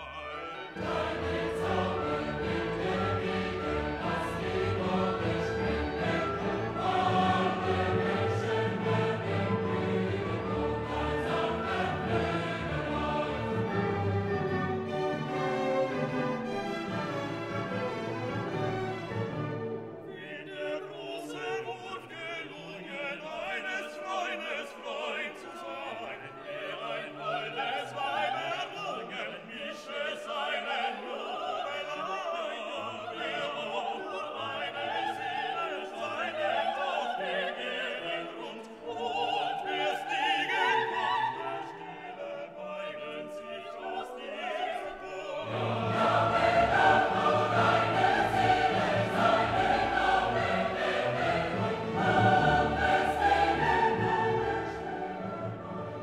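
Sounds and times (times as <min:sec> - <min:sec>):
operatic singing with orchestra: 0:00.0 - 0:56.0.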